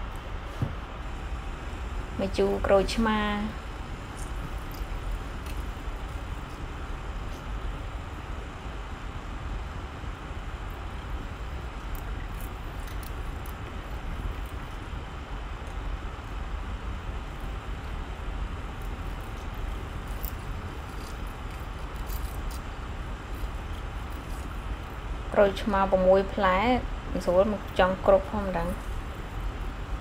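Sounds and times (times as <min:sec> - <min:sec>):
broth boiling in a pot: 0:00.0 - 0:30.0.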